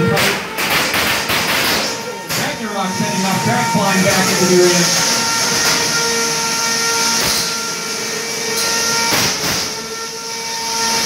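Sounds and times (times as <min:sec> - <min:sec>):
high motor whine: 0:00.0 - 0:11.0.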